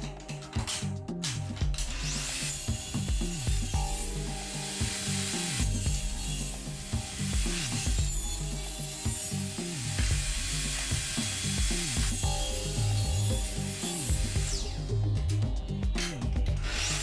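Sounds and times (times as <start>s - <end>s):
table saw cutting wood: 1.8s - 15.4s, 16.6s - 17.0s.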